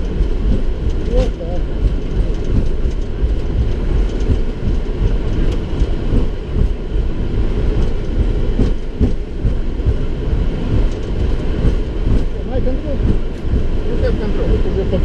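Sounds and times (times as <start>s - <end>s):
landing gear rumbling on runway: 0.0s - 15.0s.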